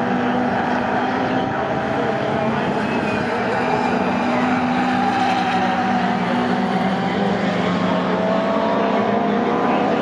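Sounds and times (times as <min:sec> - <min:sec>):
racing car engines droning: 0:00.0 - 0:10.0.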